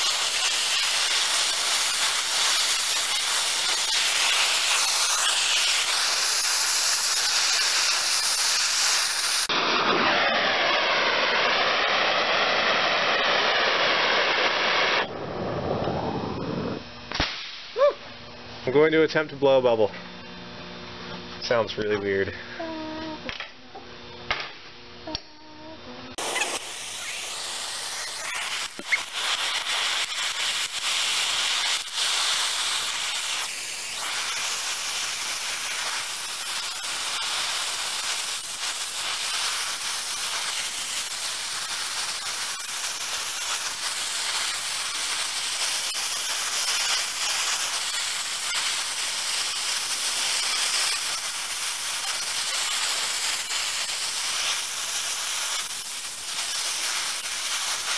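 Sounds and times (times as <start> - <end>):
torch flame hissing: 0.0 - 17.8, 26.1 - 57.9.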